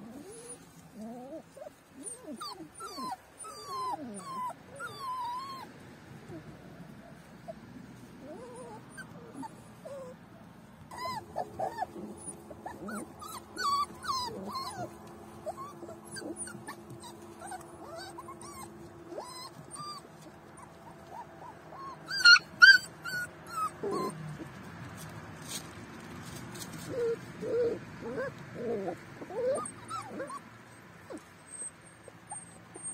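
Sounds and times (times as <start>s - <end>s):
puppies whimpering and yipping: 0.0s - 32.9s.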